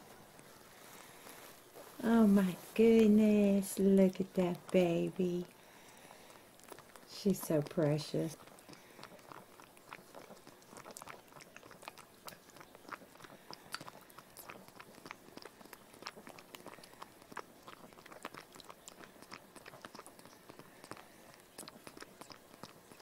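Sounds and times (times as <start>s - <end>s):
baby monkey sucking on bottle: 0.4s - 23.0s.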